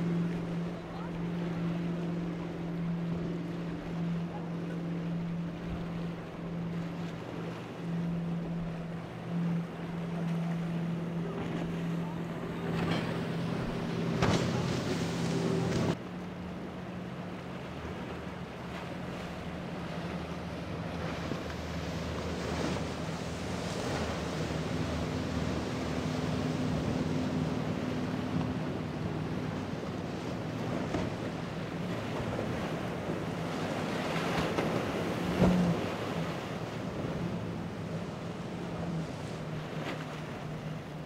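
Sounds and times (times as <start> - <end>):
boat engine drone: 0.0 - 41.0
waves washing: 0.0 - 41.0.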